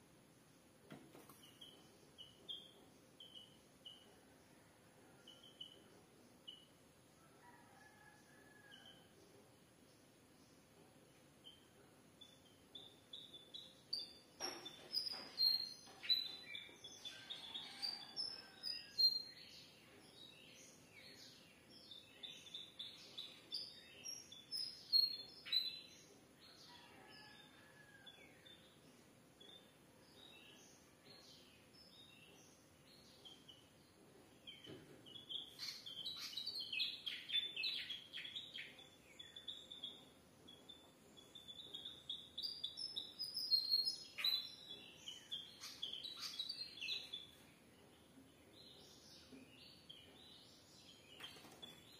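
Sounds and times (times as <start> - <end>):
small songbirds chirping: 0.0 - 7.1, 7.9 - 51.9.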